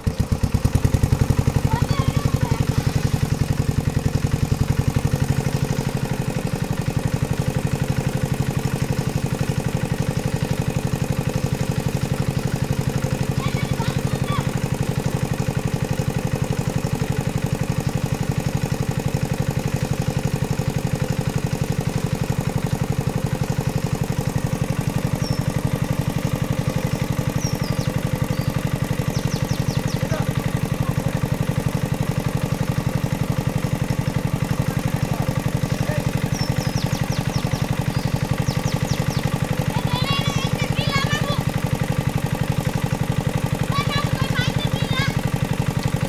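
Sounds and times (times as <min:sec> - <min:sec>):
small engine water pump running: 0:00.0 - 0:46.0.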